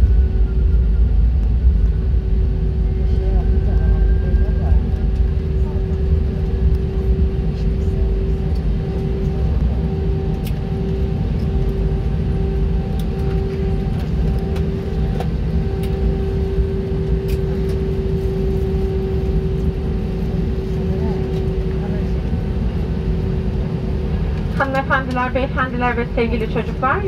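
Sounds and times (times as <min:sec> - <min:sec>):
aircraft cabin rumble and hum: 0:00.0 - 0:27.0.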